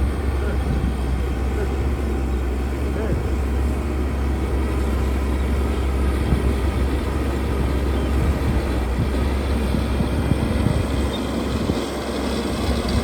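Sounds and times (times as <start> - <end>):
heavy diesel machinery rumbling: 0.0 - 13.0.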